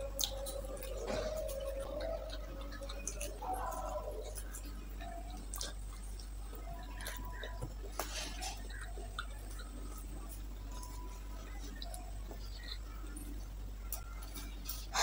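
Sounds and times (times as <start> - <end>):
person chewing: 0.0 - 15.0
steady low hum: 0.0 - 15.0.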